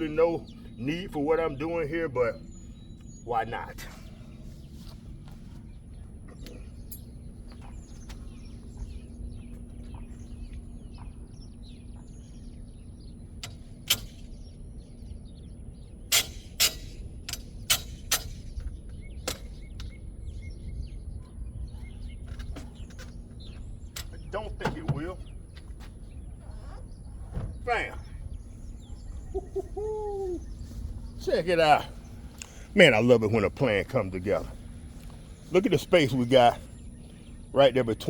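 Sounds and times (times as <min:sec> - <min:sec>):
birds chirping: 0:00.0 - 0:38.0
low outdoor rumble: 0:00.0 - 0:38.0.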